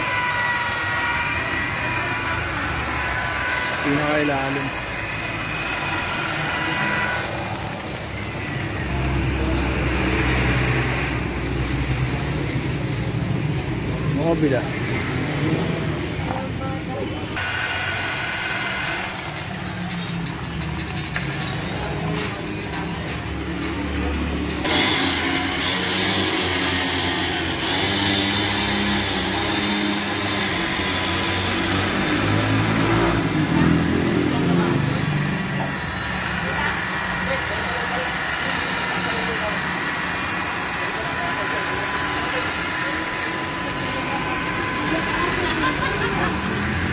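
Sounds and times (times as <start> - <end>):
machinery running: 0.0 - 46.9
rotary buffer whining: 0.0 - 46.9.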